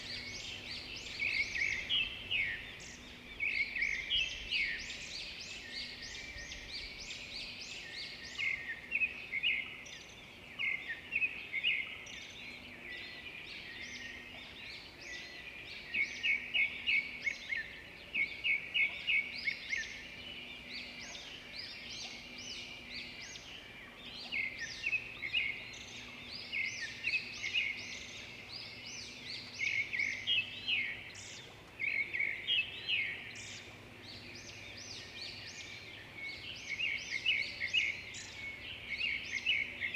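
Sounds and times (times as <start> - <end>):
small birds singing and chirping: 0.0 - 39.9.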